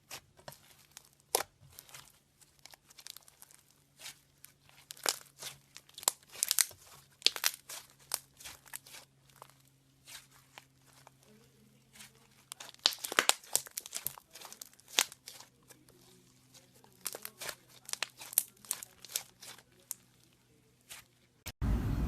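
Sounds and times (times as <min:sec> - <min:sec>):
slime squeezed with sticky crackles: 0:00.0 - 0:11.3, 0:11.9 - 0:21.2.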